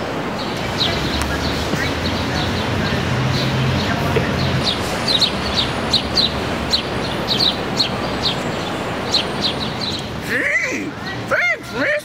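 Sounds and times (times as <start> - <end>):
city background hum: 0.0 - 12.0
small birds chirping: 0.2 - 10.4.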